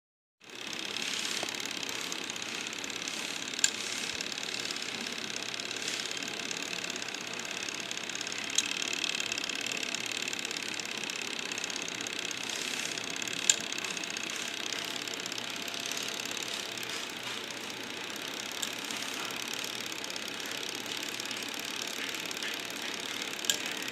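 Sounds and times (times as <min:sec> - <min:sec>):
small machine whirring: 0:00.4 - 0:23.9
sharp clicks: 0:00.5 - 0:23.9.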